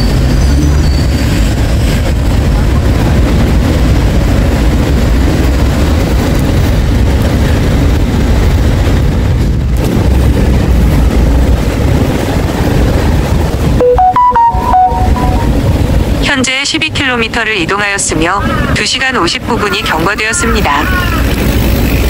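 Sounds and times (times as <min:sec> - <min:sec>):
road traffic rushing: 0:00.0 - 0:22.0.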